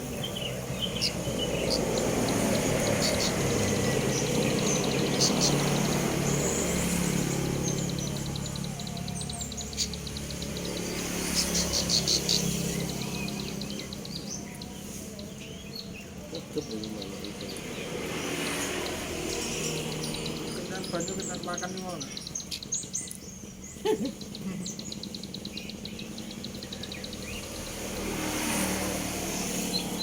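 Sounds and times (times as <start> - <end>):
bird chirping and trilling: 0.0 - 30.0.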